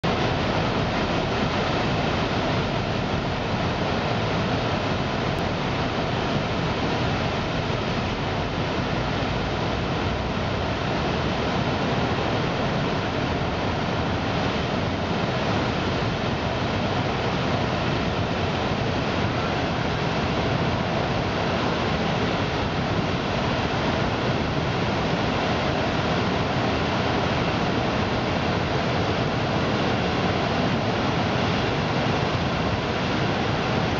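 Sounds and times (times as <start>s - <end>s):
river rapids rushing: 0.0s - 33.9s.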